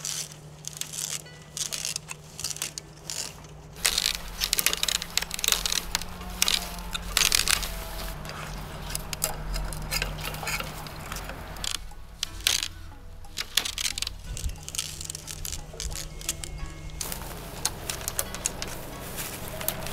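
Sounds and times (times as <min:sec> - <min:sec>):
bamboo splitting and crackling: 0:00.0 - 0:19.9.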